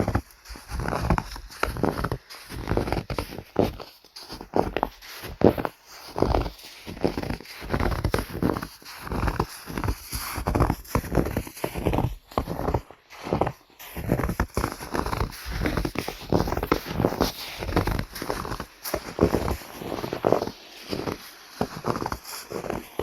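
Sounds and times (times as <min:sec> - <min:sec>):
footsteps crunching in snow: 0:00.0 - 0:23.0.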